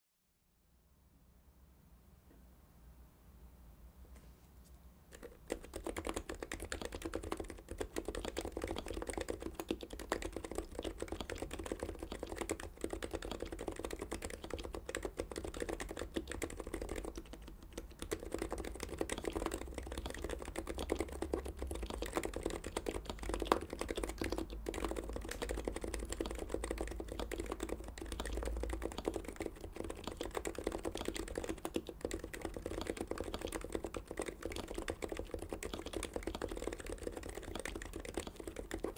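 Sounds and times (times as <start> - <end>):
keyboard typing: 5.1 - 38.9.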